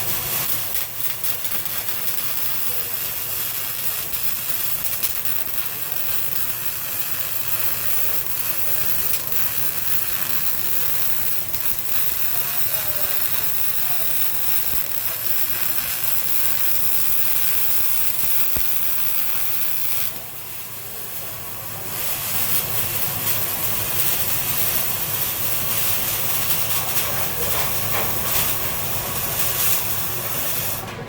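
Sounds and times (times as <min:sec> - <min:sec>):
welding arc crackling hiss: 0:00.0 - 0:31.0.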